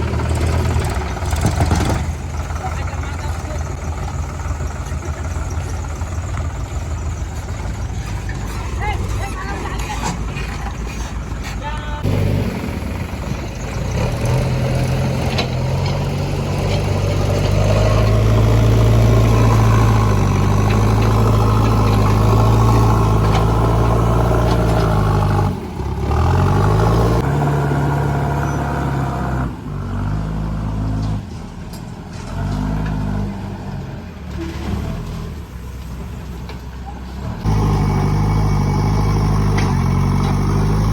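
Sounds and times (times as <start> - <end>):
heavy diesel engine revving: 0.0 - 31.4, 37.2 - 40.9.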